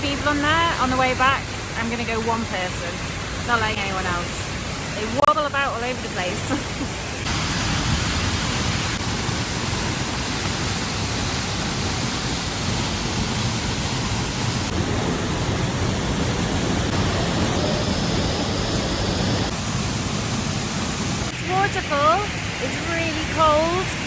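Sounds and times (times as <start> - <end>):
waterfall rushing: 0.1 - 23.7.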